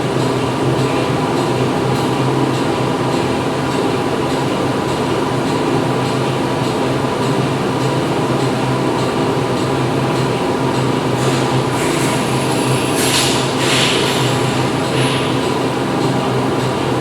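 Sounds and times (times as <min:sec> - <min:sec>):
machinery hum and drone: 0:00.0 - 0:17.0.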